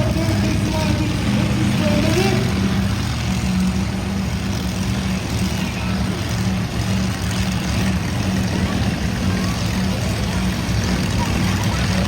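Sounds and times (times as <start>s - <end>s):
large vehicle engine running: 0.0s - 12.0s.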